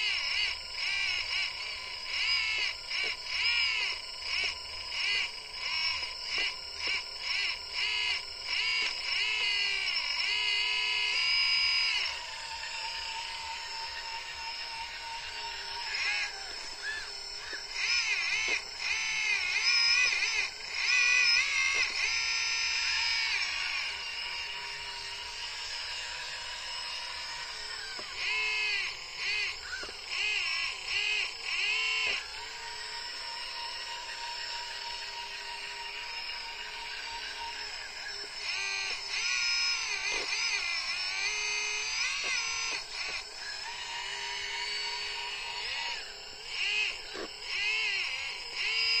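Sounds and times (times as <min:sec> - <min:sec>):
hydraulic pump whining: 0:00.0 - 0:49.0.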